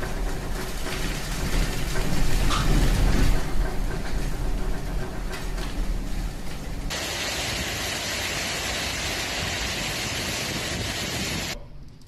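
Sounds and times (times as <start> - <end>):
heavy rain pouring: 0.0 - 11.6.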